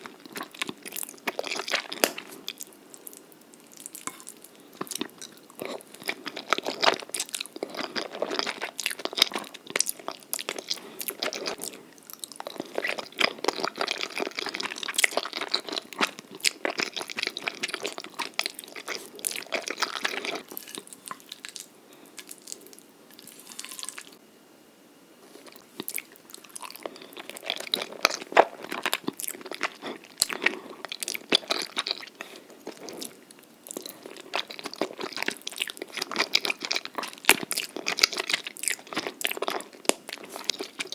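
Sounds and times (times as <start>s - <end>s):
person chewing noodles: 0.0s - 24.2s, 25.3s - 40.9s.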